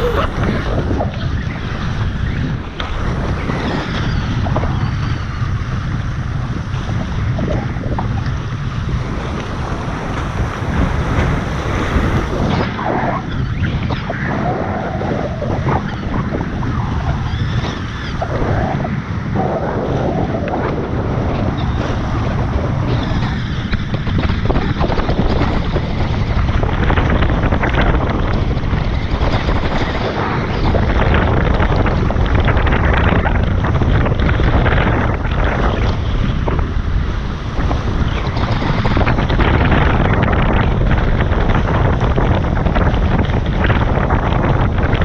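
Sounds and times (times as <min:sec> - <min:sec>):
water rushing past hulls: 0:00.0 - 0:45.0
wind buffeting microphone: 0:00.0 - 0:45.0.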